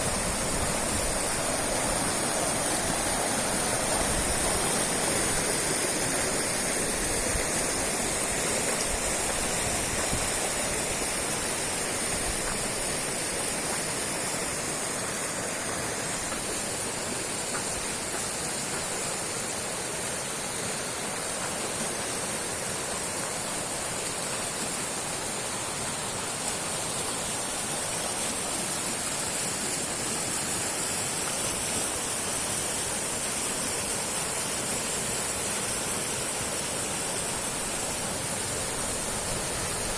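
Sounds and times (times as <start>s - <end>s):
fast river rushing: 0.0s - 39.9s.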